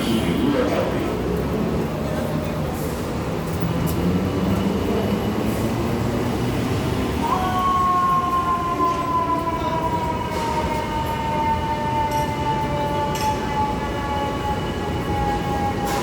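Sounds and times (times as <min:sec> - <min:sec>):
subway train rumbling: 0:00.0 - 0:16.0
wheels squealing on rails: 0:00.0 - 0:16.0.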